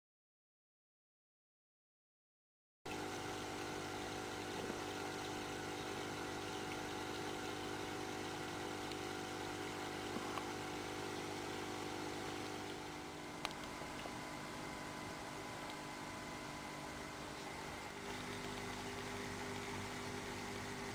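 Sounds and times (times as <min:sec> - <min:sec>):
steady mechanical hum: 0:02.9 - 0:20.9.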